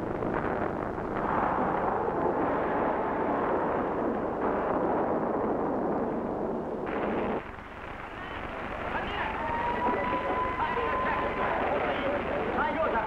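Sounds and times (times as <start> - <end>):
earthquake rumbling: 0.0 - 13.0.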